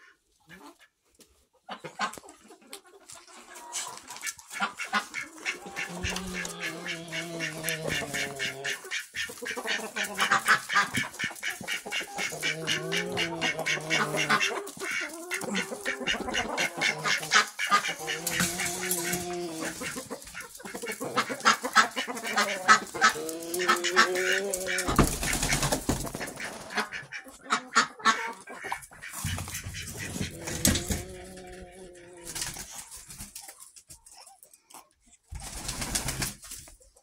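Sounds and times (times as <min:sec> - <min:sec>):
chickens and ducks calling: 0:00.0 - 0:37.0.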